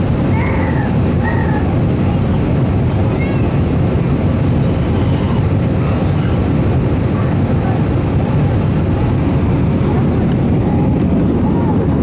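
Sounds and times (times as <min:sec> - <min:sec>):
jet engines and airflow rumbling: 0:00.0 - 0:12.0.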